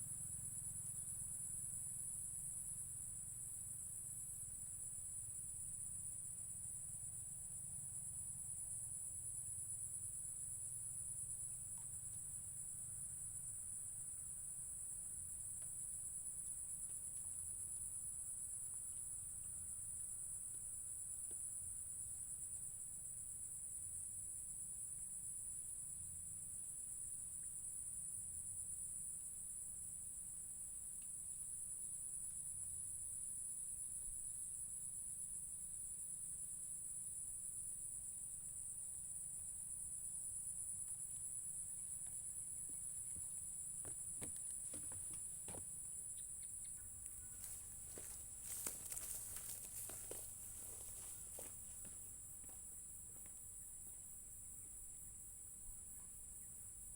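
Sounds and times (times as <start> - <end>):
insect chorus trilling: 0.0 - 56.9.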